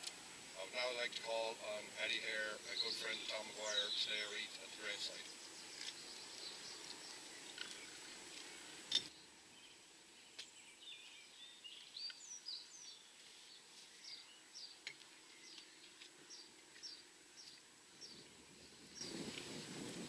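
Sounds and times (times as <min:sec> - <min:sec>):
background hiss: 0:00.0 - 0:20.0
small birds chirping: 0:00.0 - 0:20.0.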